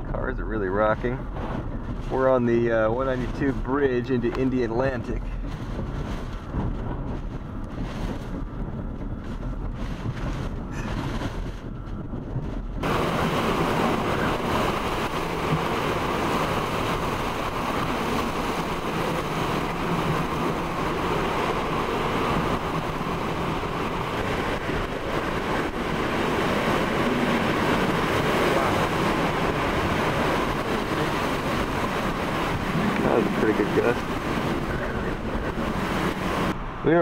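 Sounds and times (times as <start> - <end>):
strong wind driving heavy rain: 0.0 - 37.0.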